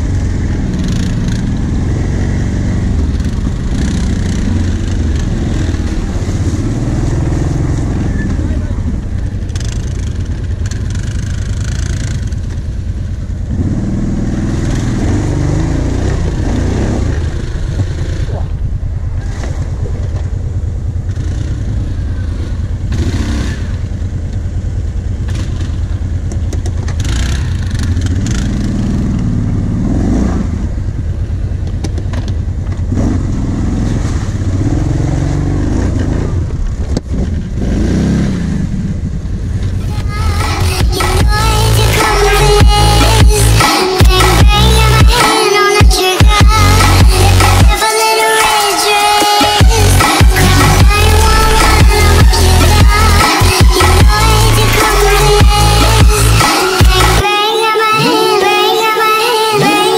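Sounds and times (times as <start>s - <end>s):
atv engine revving: 0.0s - 57.3s.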